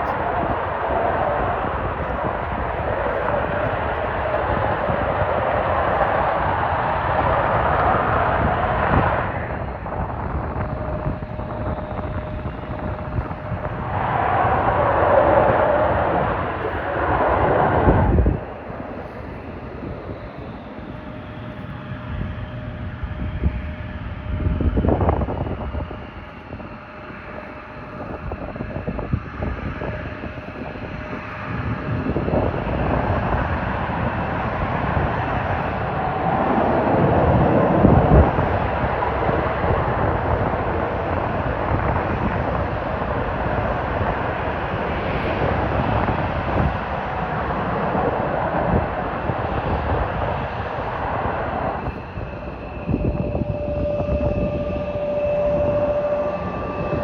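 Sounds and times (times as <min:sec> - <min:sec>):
jet engine roar: 0:00.0 - 0:57.0
jet engine whine: 0:00.0 - 0:57.0
wind gust on microphone: 0:00.0 - 0:57.0.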